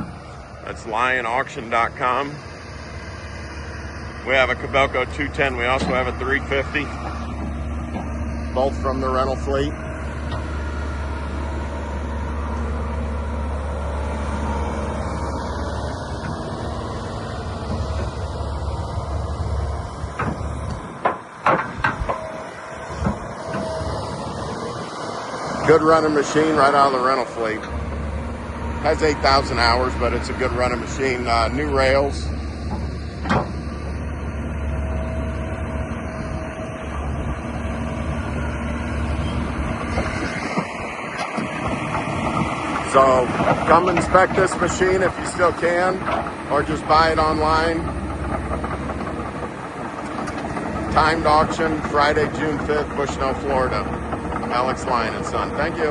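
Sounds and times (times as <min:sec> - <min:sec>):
excavator engine humming: 0:00.0 - 0:55.9.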